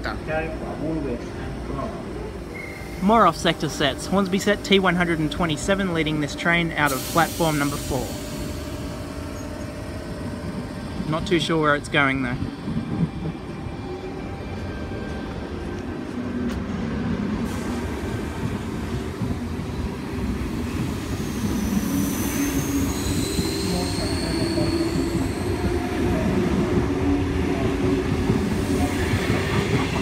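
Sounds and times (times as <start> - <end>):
electric train rumbling: 0.0 - 30.0.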